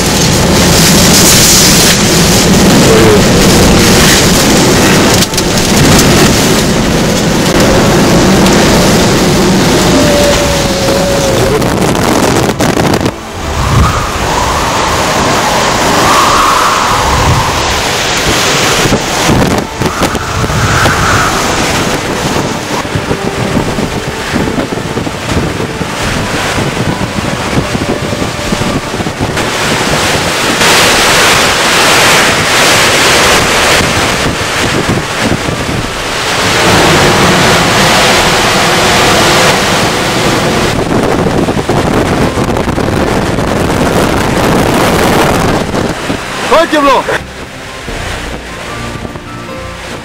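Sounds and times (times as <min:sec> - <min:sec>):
strong wind roaring on microphone: 0:00.0 - 0:50.0.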